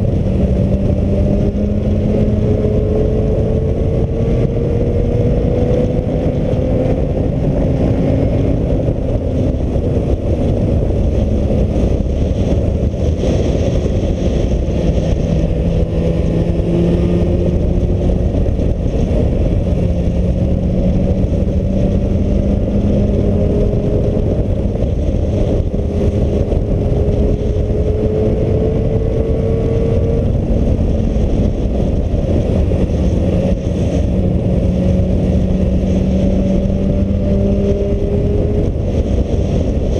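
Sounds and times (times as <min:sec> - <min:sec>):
motorcycle engine revving: 0:00.0 - 0:39.9
wind buffeting microphone: 0:00.0 - 0:39.9.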